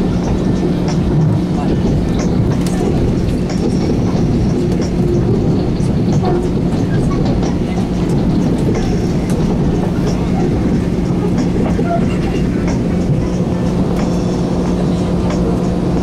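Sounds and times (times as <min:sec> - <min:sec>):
train rumbling along track: 0:00.0 - 0:16.0
wheels clicking over rails: 0:00.0 - 0:16.0.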